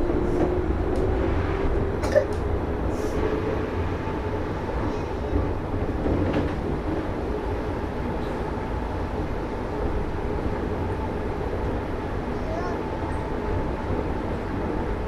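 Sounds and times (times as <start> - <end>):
metro train running: 0.0 - 15.0.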